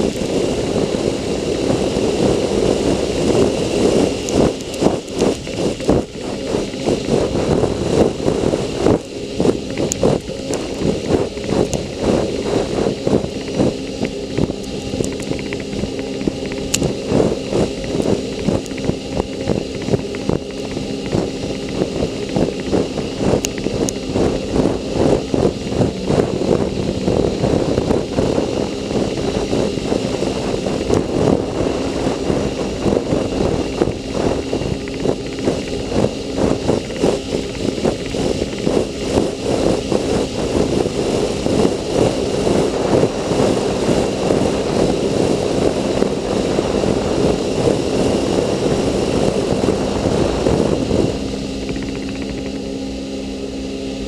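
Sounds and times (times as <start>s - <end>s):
personal watercraft engine running: 0.0s - 54.0s.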